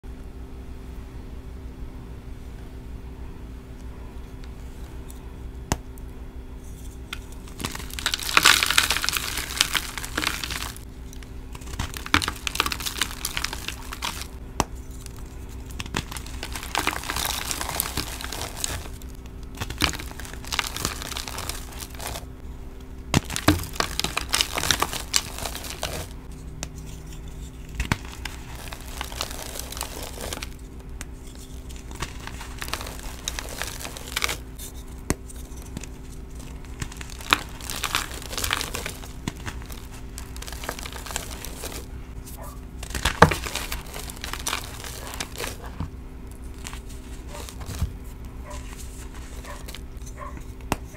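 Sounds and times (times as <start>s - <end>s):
chalk crunching and crumbling: 6.6s - 22.4s, 23.1s - 50.9s.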